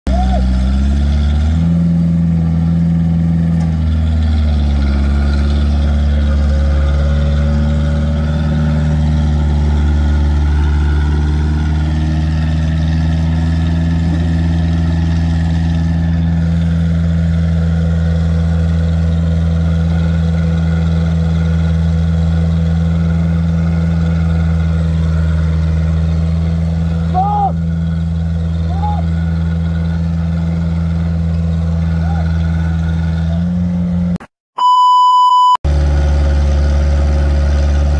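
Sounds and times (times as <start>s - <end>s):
tractor diesel engine running: 0.1s - 34.3s, 35.6s - 37.9s.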